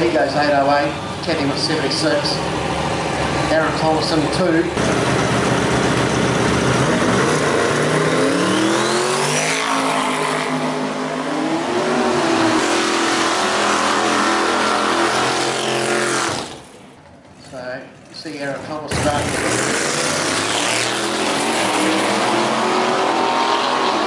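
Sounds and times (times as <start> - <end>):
drag racing engine at full throttle: 0.0 - 24.0.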